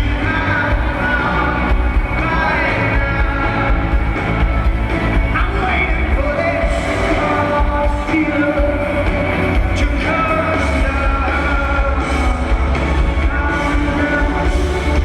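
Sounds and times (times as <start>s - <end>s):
heavy bass: 0.0s - 15.0s
lead singer's voice: 0.0s - 15.0s
rock band playing live: 0.0s - 15.0s.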